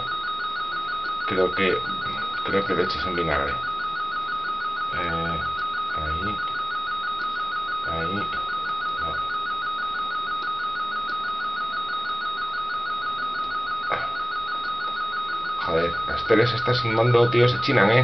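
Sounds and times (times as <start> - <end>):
radioteletype warble: 0.0 - 18.0.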